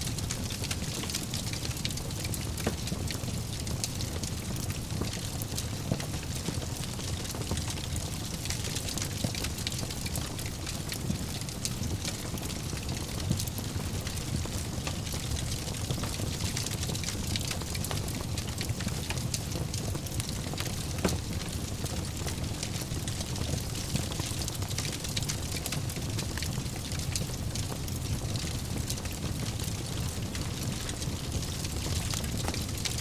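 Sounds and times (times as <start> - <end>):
fire crackles and snaps: 0.0 - 33.0
fire flames rumbling: 0.0 - 33.0.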